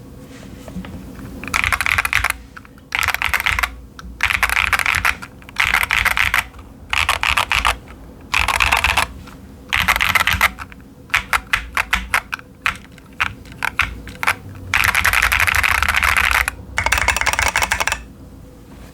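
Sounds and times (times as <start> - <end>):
mechanical keyboard typing: 1.2 - 18.1.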